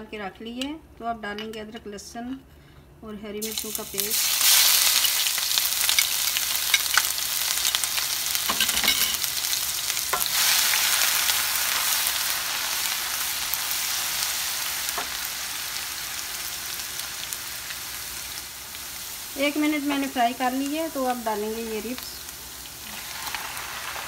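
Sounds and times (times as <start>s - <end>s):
paste sizzling in hot oil: 3.4s - 24.0s.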